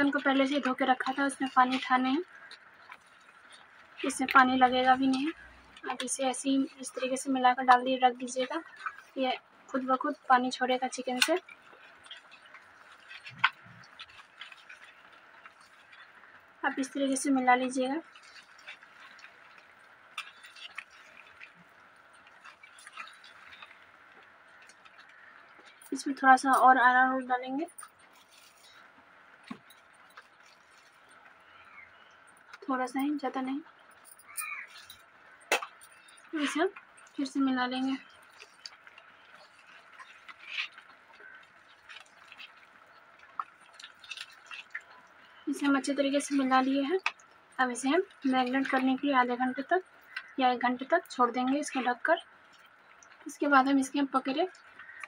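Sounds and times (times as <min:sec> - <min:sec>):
wet squishing of marinade: 0:00.0 - 0:55.0.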